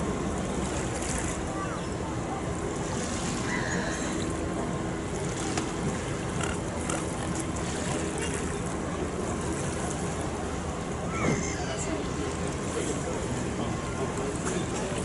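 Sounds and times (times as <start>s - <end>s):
small waves lapping at shore: 0.0s - 15.0s
wind: 0.0s - 15.0s.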